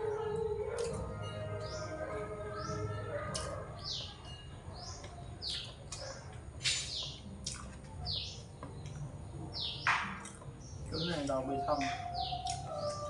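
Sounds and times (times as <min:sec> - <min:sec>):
small bird chirping: 0:00.8 - 0:13.0.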